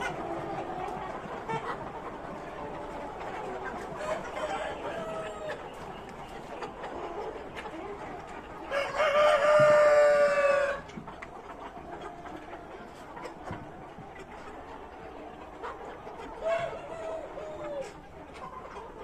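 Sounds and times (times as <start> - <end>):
chickens calling softly: 0.0 - 19.0.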